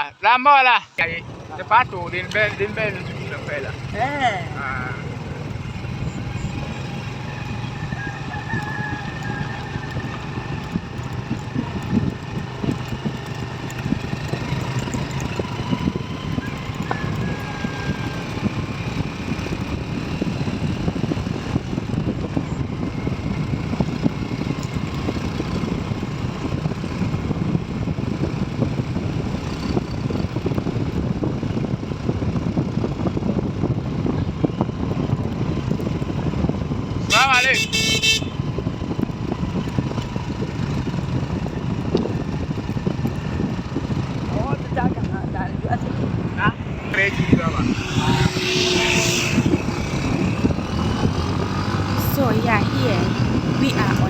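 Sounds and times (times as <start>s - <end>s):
road and wind noise: 0.0s - 54.0s
motorcycle engine running: 1.0s - 54.0s.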